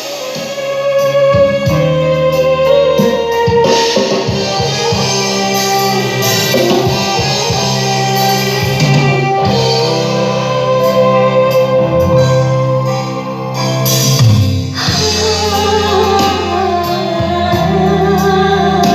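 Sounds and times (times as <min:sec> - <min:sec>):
music over loud pa system: 0:00.0 - 0:18.9.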